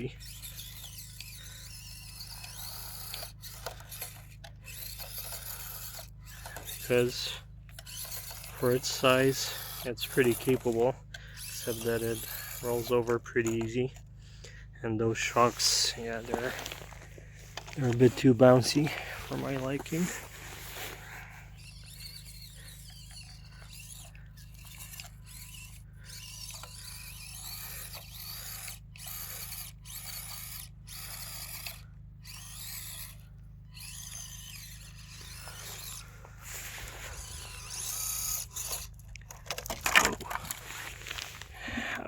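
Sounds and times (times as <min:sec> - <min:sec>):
small electric motor whining: 0:00.0 - 0:42.0.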